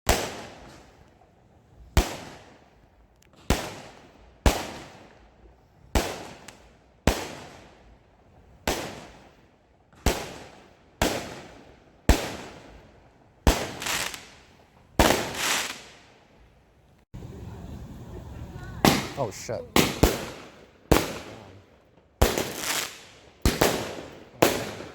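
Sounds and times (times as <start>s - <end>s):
fireworks bursting with echo: 0.1s - 16.5s, 18.3s - 24.9s.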